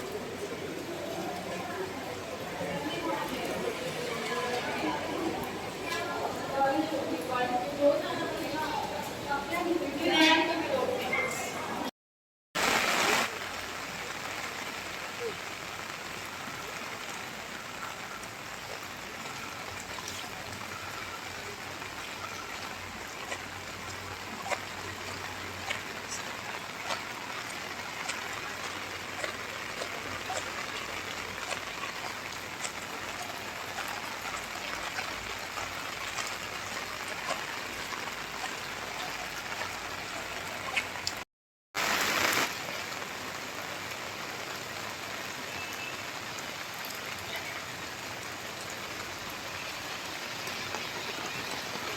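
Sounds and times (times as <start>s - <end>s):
raindrops ticking on hard surfaces: 0.0s - 11.8s, 12.6s - 41.2s, 41.8s - 51.9s
steady rain falling: 0.0s - 11.9s, 12.6s - 51.9s.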